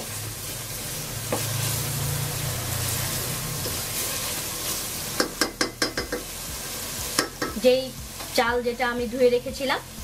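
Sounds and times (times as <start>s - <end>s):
masala sizzling in oil: 0.0s - 10.0s.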